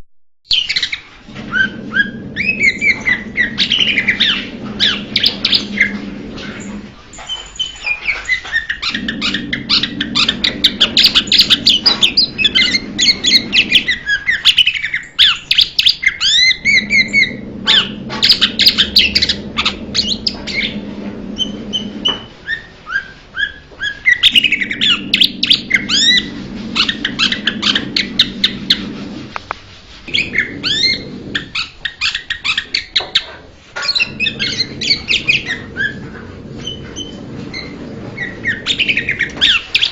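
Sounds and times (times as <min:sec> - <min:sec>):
low hum: 0:01.3 - 0:14.1, 0:16.4 - 0:22.4, 0:24.3 - 0:31.6, 0:34.0 - 0:39.9.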